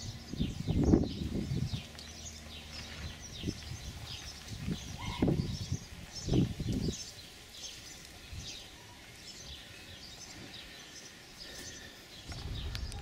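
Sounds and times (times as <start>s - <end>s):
faint outdoor ambience: 0.0s - 13.0s
small birds chirping: 0.0s - 13.0s.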